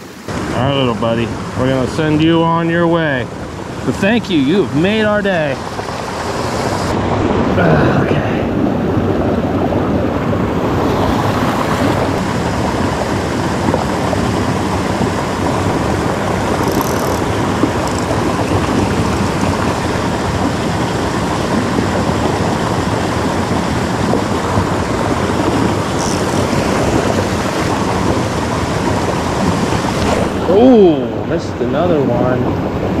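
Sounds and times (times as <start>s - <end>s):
creek water rushing over rocks: 0.0s - 7.0s, 10.2s - 33.0s.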